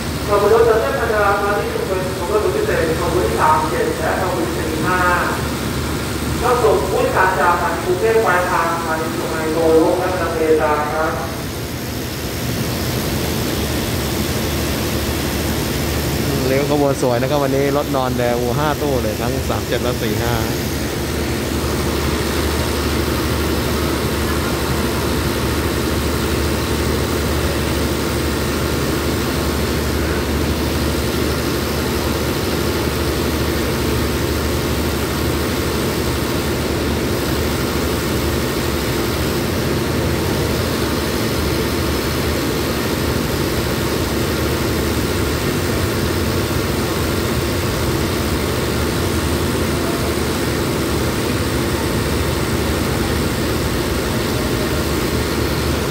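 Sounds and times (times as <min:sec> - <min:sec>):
train engine idling drone: 0:00.0 - 0:55.9.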